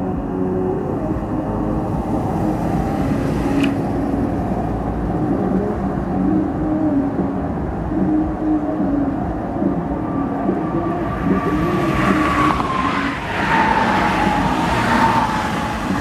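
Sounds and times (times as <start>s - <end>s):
low engine drone: 0.0s - 16.0s
steady traffic rumble: 0.0s - 16.0s
vehicles passing: 0.0s - 16.0s.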